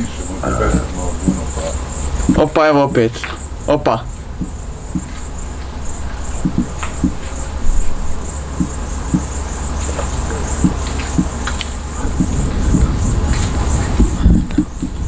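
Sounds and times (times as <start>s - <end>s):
crickets chirping: 0.0s - 15.0s
low rumble: 0.0s - 15.0s
raindrops pattering: 0.0s - 15.0s.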